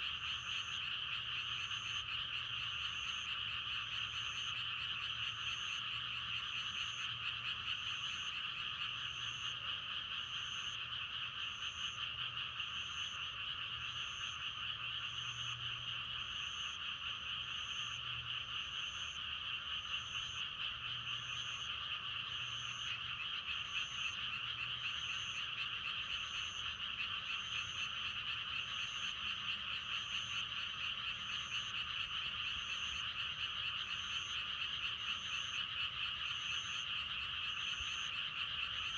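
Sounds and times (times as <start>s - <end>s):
frogs croaking in chorus: 0.0s - 38.9s.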